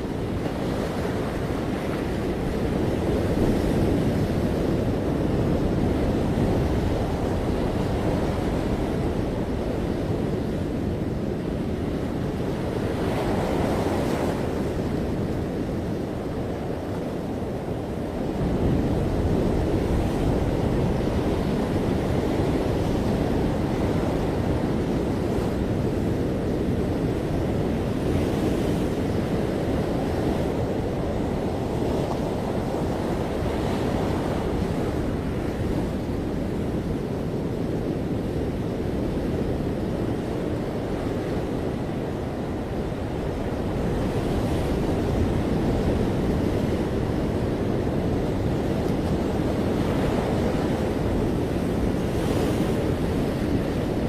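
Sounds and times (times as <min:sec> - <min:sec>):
ocean waves breaking: 0:00.0 - 0:54.0
wind on microphone: 0:00.0 - 0:54.0.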